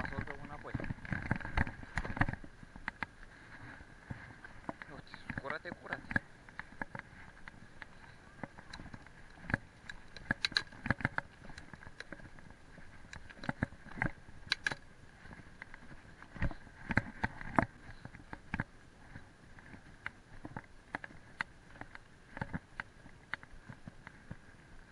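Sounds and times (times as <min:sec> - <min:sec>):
mountain bike rattling on gravel: 0:00.0 - 0:24.9.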